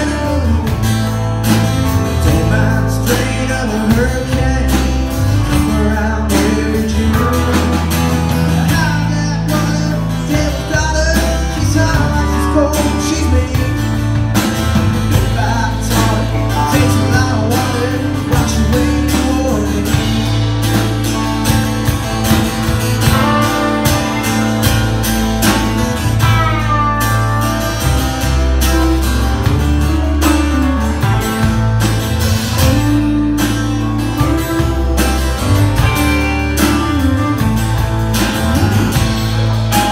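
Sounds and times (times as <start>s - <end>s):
bass guitar: 0.0s - 39.9s
drums: 0.0s - 39.9s
lead electric guitar: 0.0s - 39.9s
strummed acoustic guitar: 0.0s - 39.9s.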